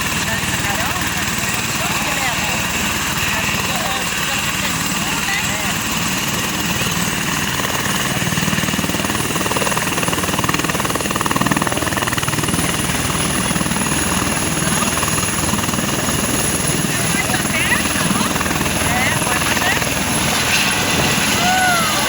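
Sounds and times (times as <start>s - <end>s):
helicopter rotor blades beating: 0.0s - 22.0s
high turbine whine: 0.1s - 22.0s.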